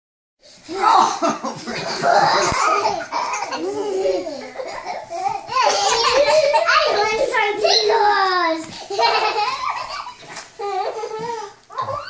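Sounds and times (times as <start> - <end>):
children laughing: 0.7 - 12.0.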